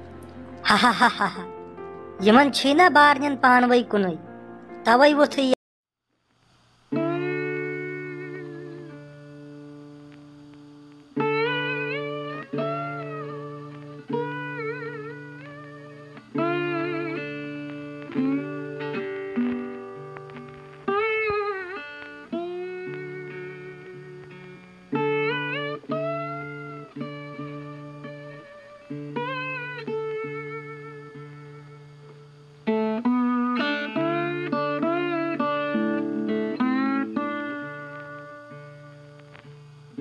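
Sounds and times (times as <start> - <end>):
plucked string melody with sliding notes: 0.0 - 4.9, 6.9 - 40.0.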